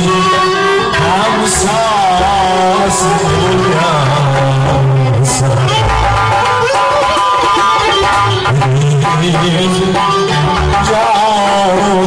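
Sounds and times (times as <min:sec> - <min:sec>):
sharp percussion hit: 0:00.0 - 0:11.6
live band with electric guitar: 0:00.0 - 0:12.0.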